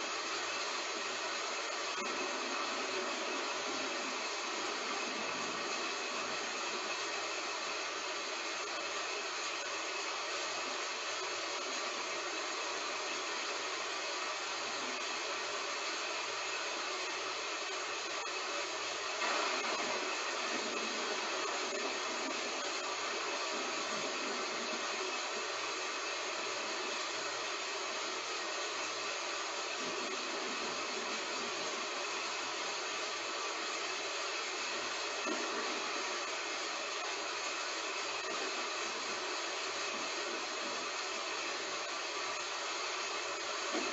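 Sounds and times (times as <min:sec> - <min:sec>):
heavy rain hissing: 0:00.0 - 0:43.9.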